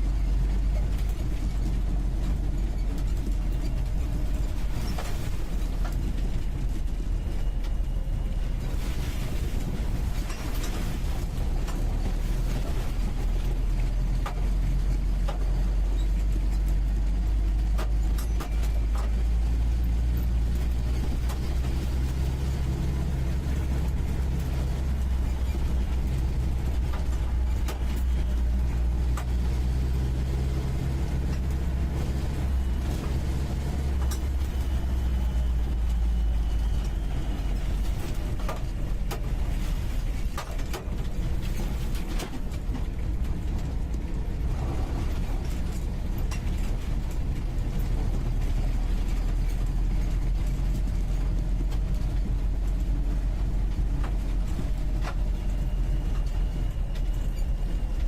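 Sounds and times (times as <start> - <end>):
car engine running: 0.0 - 58.0
knocks and rattles: 9.2 - 58.0.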